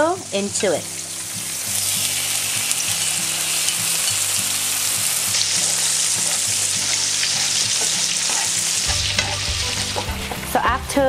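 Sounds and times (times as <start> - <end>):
tomatoes sizzling in frying pan: 0.0 - 11.0.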